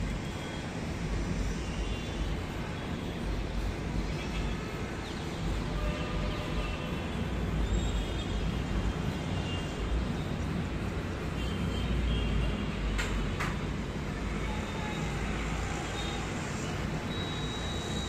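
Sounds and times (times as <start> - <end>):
distant city traffic hum: 0.0 - 18.0.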